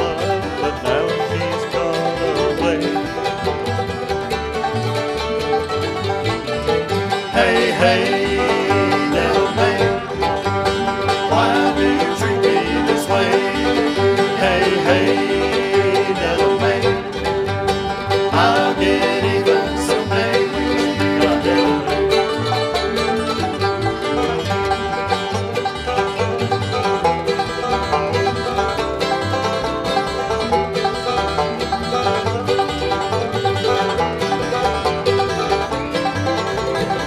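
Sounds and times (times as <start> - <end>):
bluegrass band playing: 0.0 - 37.0.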